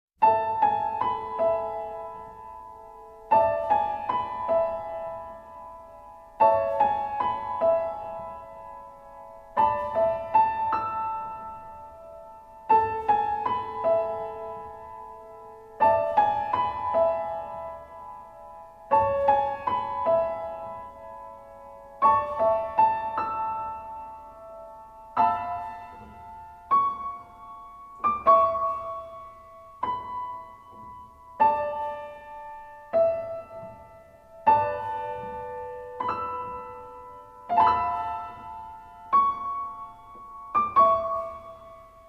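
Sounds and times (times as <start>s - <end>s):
piano phrase: 0.2s - 42.0s.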